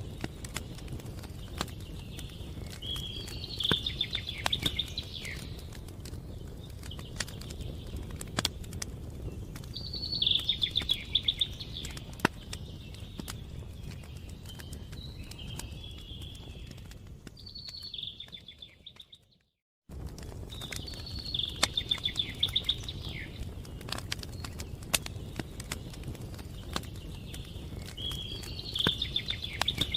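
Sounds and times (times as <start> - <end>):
bird singing trilled phrases: 0.0 - 8.3, 9.2 - 19.4, 20.5 - 29.9
wood fire crackling and popping: 0.0 - 29.9.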